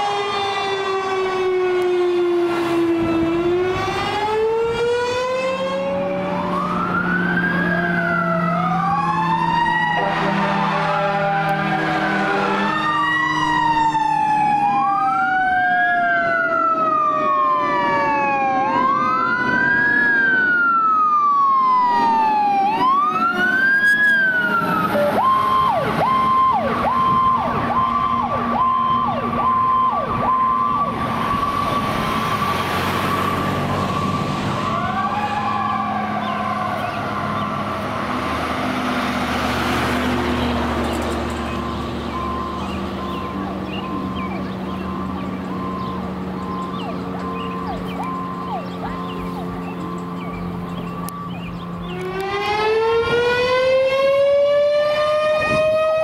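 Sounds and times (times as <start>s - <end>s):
second siren winding down: 0.0s - 56.0s
siren wailing: 0.0s - 56.0s.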